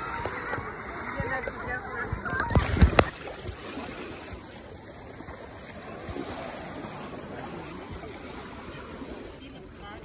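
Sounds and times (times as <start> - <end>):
waves lapping on sandy shore: 0.0 - 10.0.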